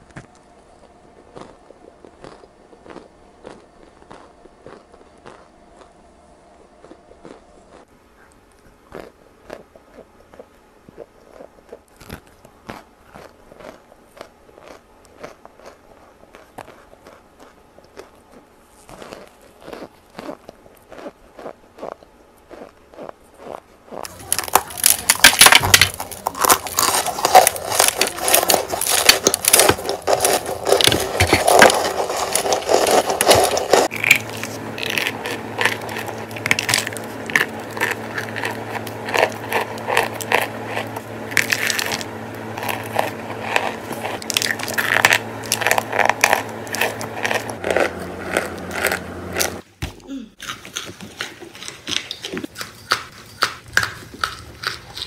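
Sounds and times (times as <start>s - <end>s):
crunchy chewing: 0.0s - 49.7s, 50.4s - 55.0s
steady low hum: 0.0s - 55.0s.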